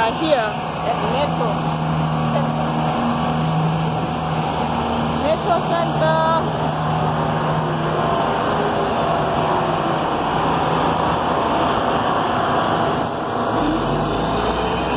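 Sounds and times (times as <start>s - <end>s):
traffic rumble: 0.0s - 14.9s.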